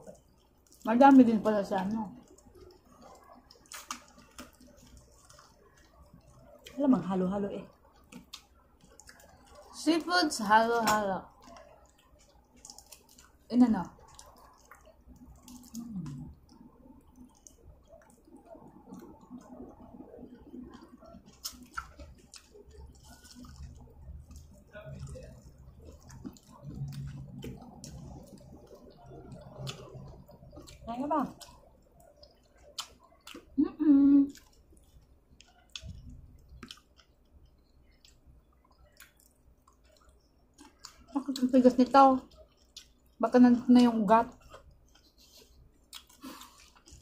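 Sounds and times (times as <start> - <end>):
wet chewing and squishing: 0.0 - 47.0.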